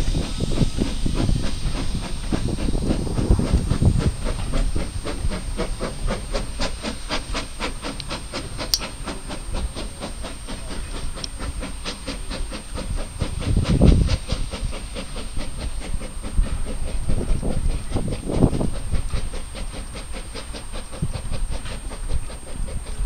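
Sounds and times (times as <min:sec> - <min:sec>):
steam hissing: 0:00.0 - 0:23.0
steam locomotive exhaust beats: 0:00.0 - 0:23.0.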